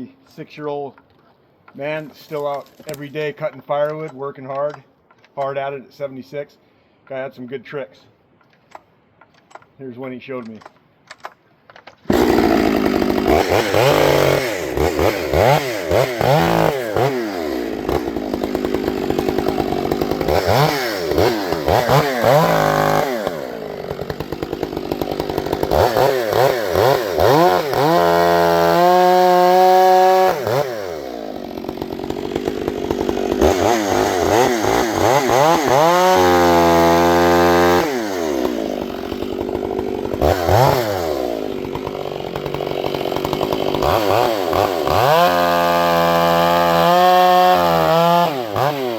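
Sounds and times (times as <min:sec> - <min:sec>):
chainsaw cutting wood: 0:01.7 - 0:04.8, 0:10.4 - 0:48.9.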